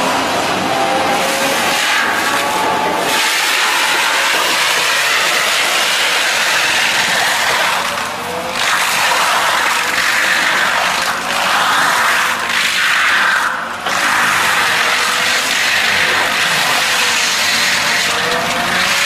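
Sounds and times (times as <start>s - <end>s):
forestry mulcher grinding wood: 0.0s - 19.0s.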